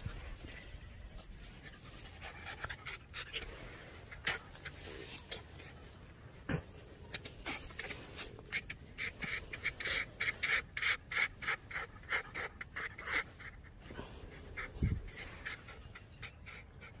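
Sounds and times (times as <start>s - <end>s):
fox panting cackle: 1.6s - 5.7s, 6.7s - 17.0s.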